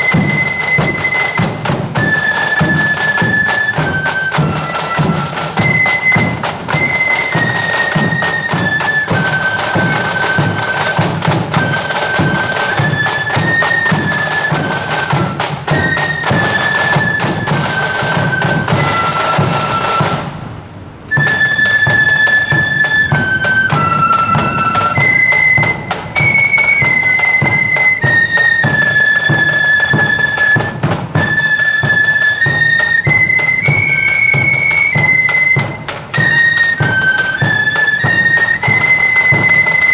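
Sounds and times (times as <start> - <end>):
flutes playing a tune: 0.0 - 20.5, 21.1 - 39.9
drums beating: 0.0 - 39.9.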